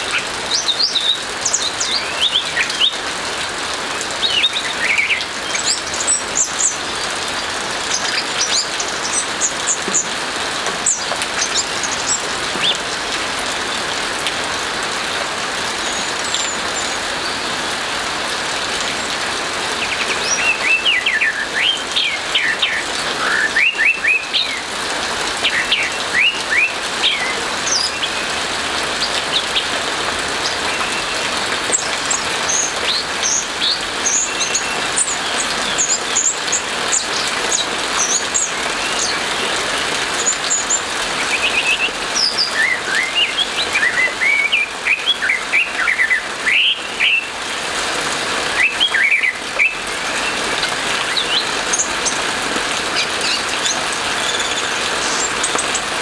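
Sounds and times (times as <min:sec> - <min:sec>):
rain hiss: 0:00.0 - 0:56.0.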